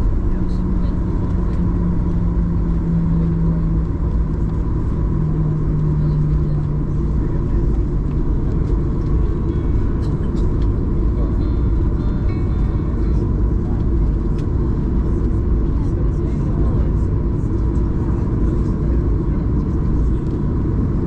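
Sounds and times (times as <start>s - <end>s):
jet engine rumble in cabin: 0.0s - 21.0s
low hum: 0.0s - 21.0s.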